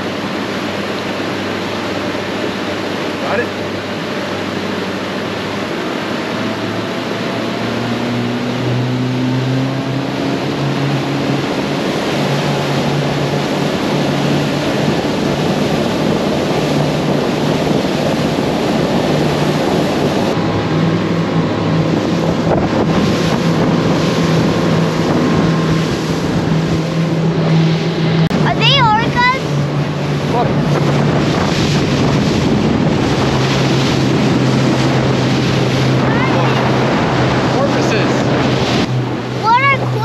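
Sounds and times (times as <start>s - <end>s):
outboard motor running: 0.0s - 40.0s
rush of boat wake: 0.0s - 40.0s
wind on microphone: 2.5s - 40.0s.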